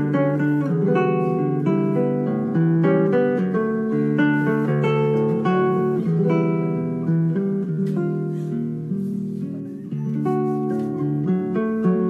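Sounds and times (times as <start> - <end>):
plucked acoustic guitar melody: 0.0 - 12.0.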